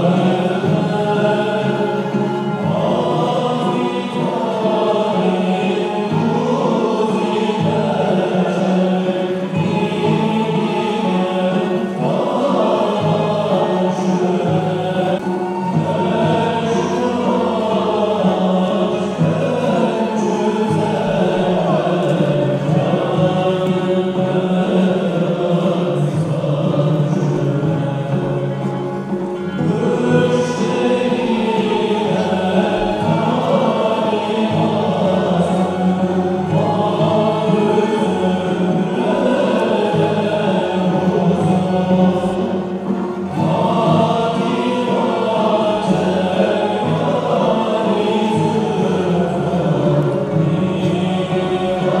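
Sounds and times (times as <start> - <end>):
choir singing a chant: 0.0 - 52.0
instrumental accompaniment: 0.0 - 52.0.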